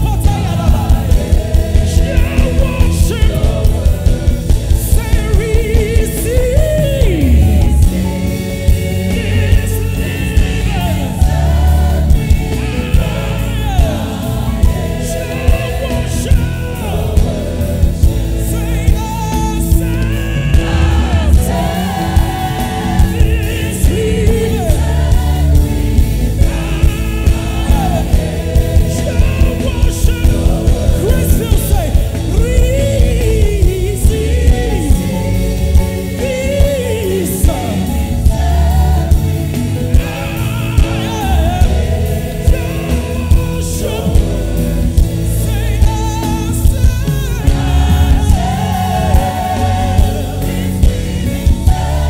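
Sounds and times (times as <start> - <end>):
backing choir singing: 0.0 - 52.0
band with heavy bass: 0.0 - 52.0
lead singer: 0.0 - 52.0.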